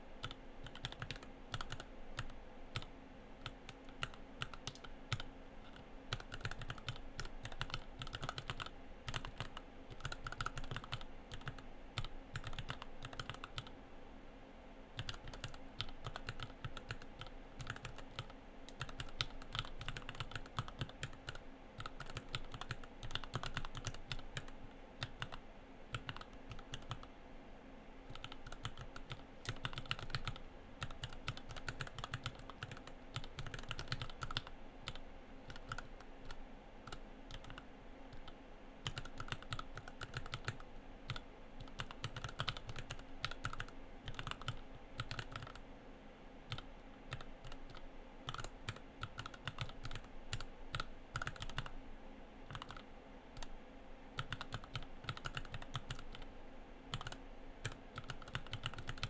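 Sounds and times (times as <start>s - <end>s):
mechanical keyboard typing: 0.2s - 13.7s, 15.0s - 27.1s, 28.1s - 45.6s, 46.5s - 51.7s, 52.5s - 52.8s, 54.2s - 56.3s, 56.9s - 59.0s.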